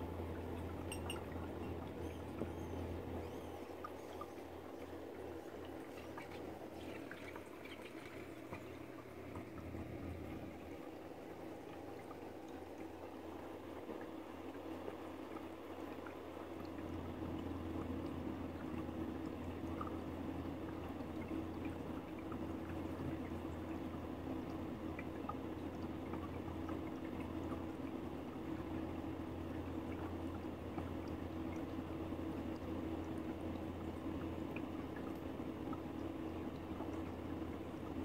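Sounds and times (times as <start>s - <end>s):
liquid bubbling: 0.0s - 38.0s
low electrical hum: 0.0s - 38.0s.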